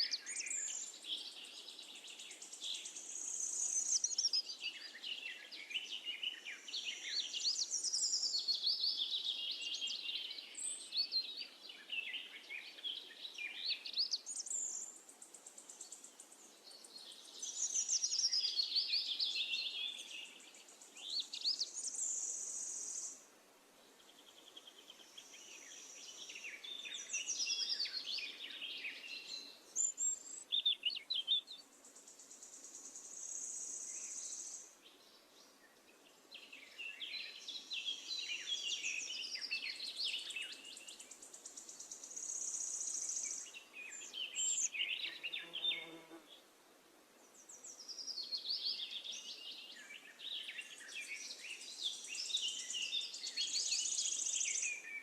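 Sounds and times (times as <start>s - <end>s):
birds chirping and warbling: 0.0s - 23.2s, 23.9s - 46.5s, 47.2s - 55.0s.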